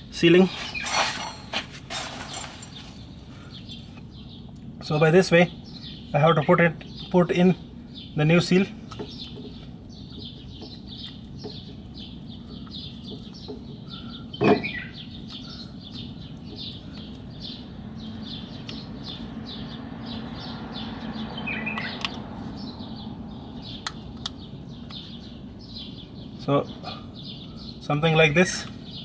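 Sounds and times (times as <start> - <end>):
steady low hum: 0.0 - 29.0
small bird chirping: 2.2 - 29.0.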